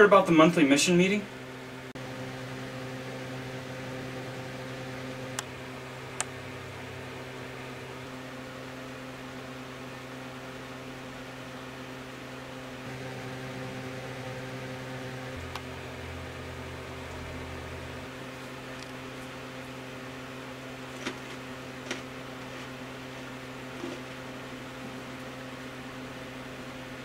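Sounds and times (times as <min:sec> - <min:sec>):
electrical hum with hiss: 0:00.0 - 0:27.0.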